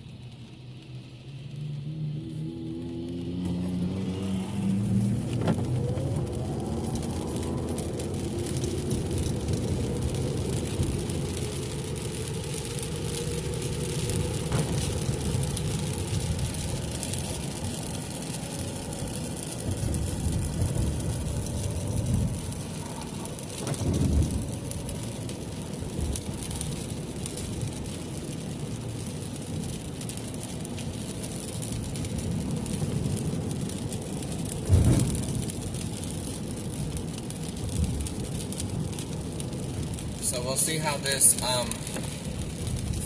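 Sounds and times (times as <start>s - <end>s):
car engine and tyre noise: 0.0s - 43.0s
rain: 0.0s - 43.0s.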